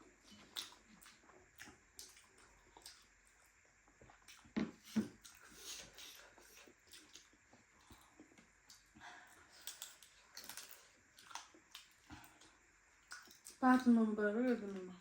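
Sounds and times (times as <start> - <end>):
person chewing food: 0.2 - 13.6.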